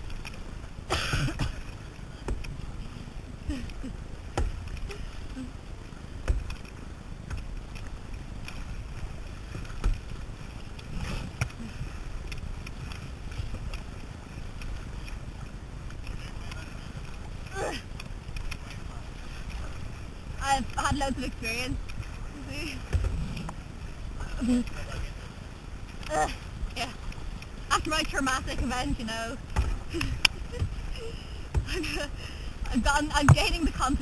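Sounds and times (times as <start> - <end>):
paddle knocks and splashes: 0.0 - 24.0, 24.7 - 34.0
low rumble: 0.0 - 34.0
water sloshing against hull: 0.0 - 34.0.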